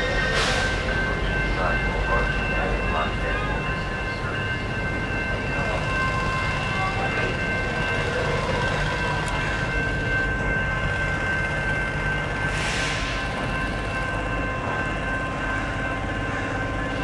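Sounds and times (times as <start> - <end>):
high-pitched ringing tones: 0.0 - 17.0
railcar rumbling past: 0.0 - 17.0.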